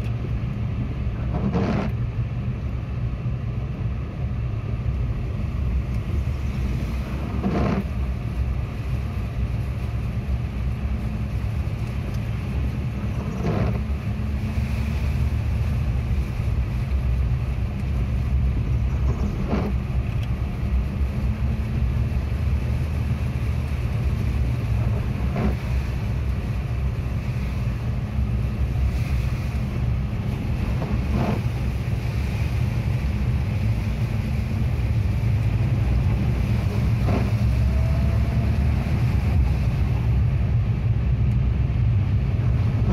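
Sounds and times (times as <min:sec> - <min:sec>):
car tyres pushing through water: 0:00.0 - 0:42.9
windscreen wiper sweep: 0:00.0 - 0:42.9.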